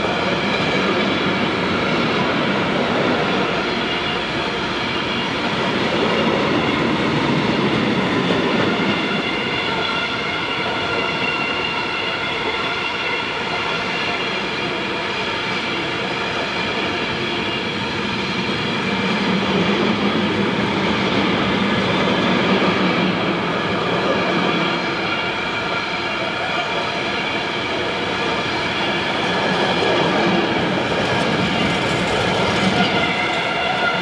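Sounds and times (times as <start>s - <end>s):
steel wheels on rail: 0.0s - 34.0s.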